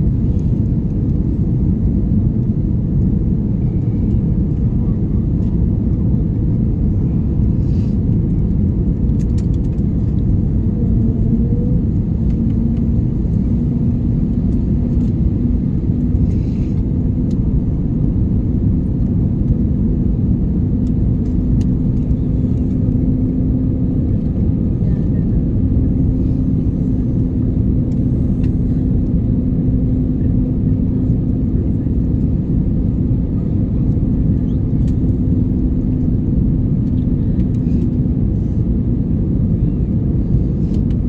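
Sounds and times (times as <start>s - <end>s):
airliner engine and airflow noise: 0.0s - 41.0s
steady hum: 0.0s - 41.0s.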